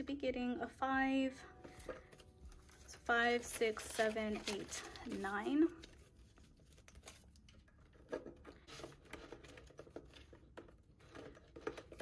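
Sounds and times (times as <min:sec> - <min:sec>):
paper banknotes rustling: 0:01.7 - 0:12.0.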